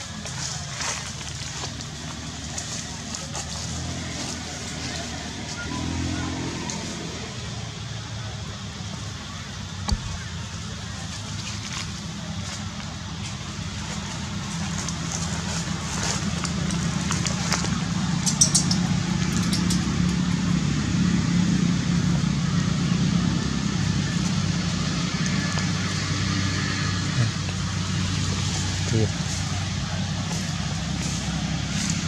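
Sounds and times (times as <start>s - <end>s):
vehicle engine humming: 0.0s - 32.0s.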